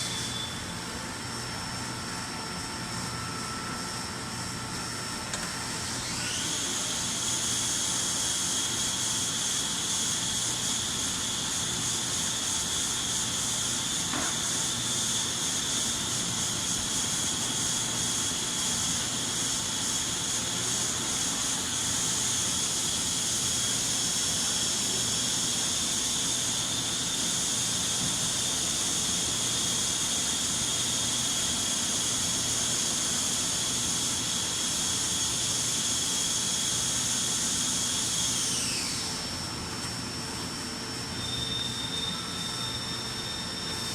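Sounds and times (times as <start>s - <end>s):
machine spindle whine: 0.0s - 43.9s.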